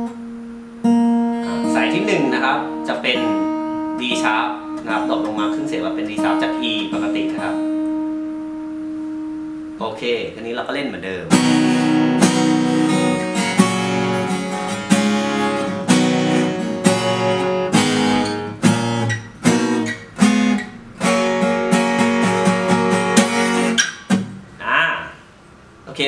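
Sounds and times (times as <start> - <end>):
acoustic guitar strummed chords: 0.0 - 10.4, 11.1 - 24.6.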